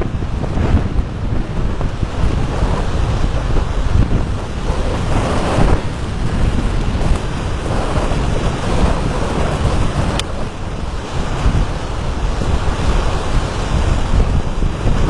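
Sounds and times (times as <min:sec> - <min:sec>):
crashing surf: 0:00.0 - 0:15.0
wind buffeting microphone: 0:00.0 - 0:15.0.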